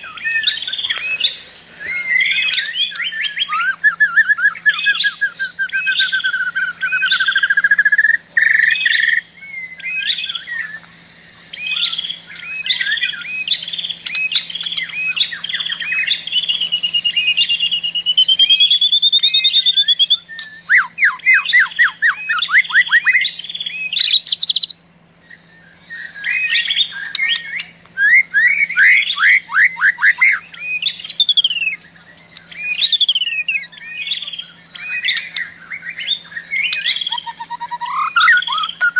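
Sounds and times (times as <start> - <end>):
birds chirping and singing: 0.0 - 38.9
faint low hum: 0.0 - 38.9
long wavering bird whistle: 0.0 - 38.9.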